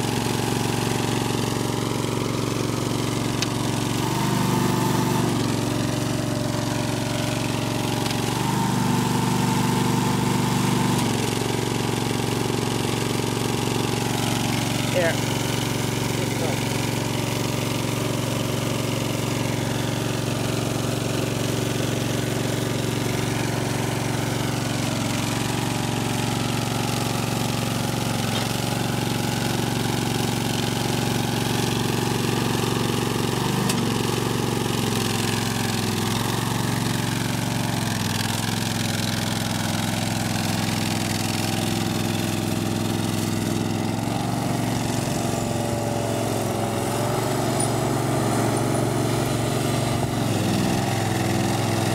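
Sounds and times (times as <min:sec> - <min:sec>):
mower engine running: 0:00.0 - 0:51.9.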